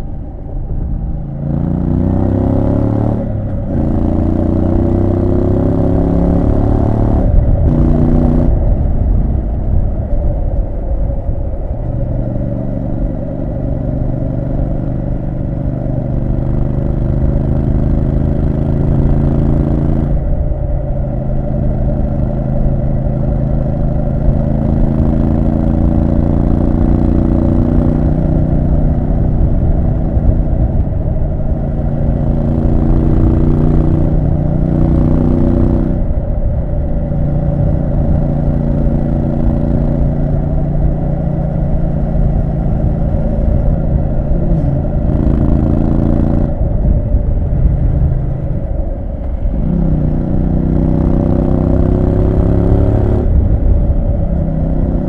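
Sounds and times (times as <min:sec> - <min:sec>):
motorcycle engine under load: 0:00.0 - 0:55.0.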